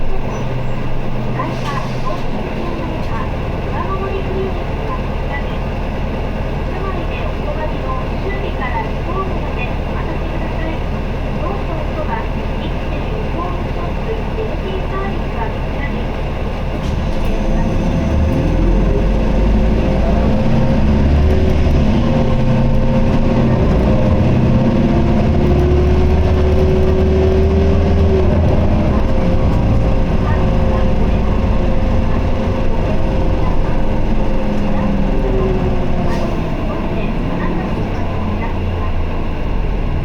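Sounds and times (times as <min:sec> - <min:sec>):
bus diesel engine pulling: 0:00.0 - 0:40.0.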